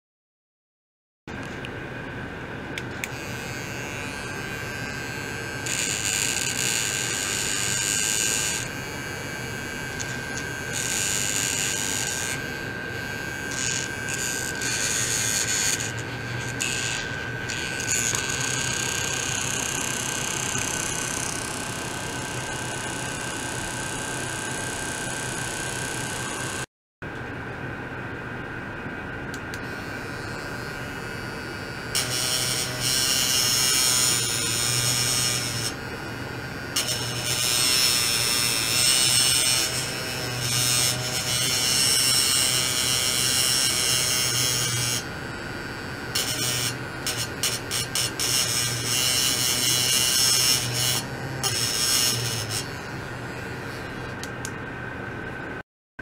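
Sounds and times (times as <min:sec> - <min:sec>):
steady high whine: 0:01.3 - 0:38.8, 0:41.2 - 0:55.6
electrical buzzing with hiss: 0:02.8 - 0:26.7, 0:29.4 - 0:54.5.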